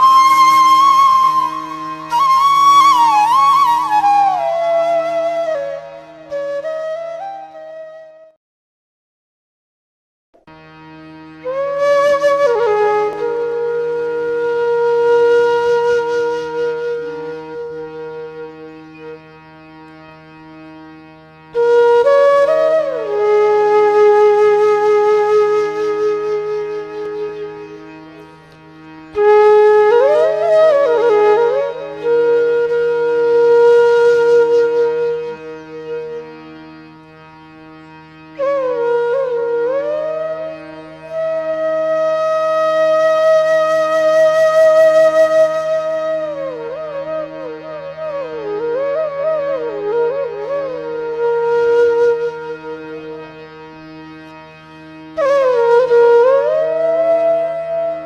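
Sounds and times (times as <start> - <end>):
flute music: 0.0 - 8.4, 10.4 - 58.0.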